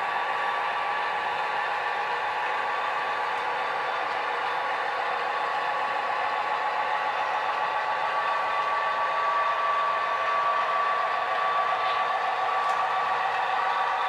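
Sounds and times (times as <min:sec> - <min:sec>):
model train motor whirring: 0:00.4 - 0:14.0.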